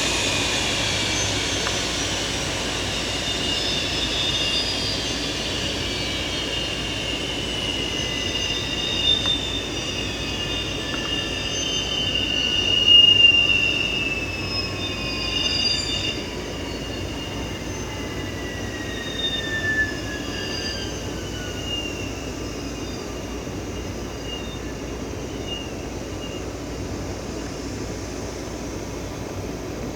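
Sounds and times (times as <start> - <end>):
jet engine whine: 0.0 - 29.9.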